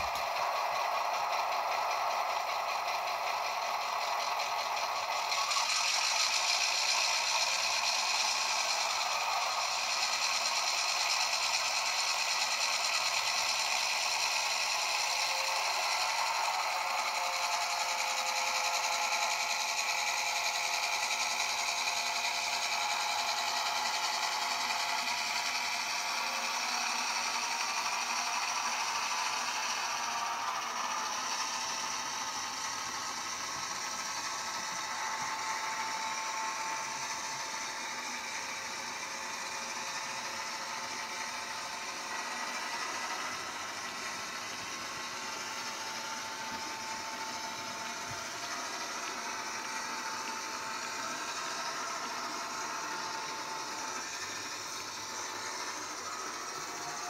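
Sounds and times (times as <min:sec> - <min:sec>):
model train whirring and rattling: 0:00.0 - 0:57.0.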